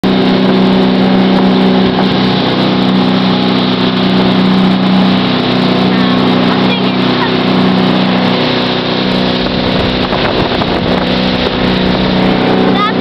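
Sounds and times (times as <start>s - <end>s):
boat engine running steadily: 0.0s - 13.0s.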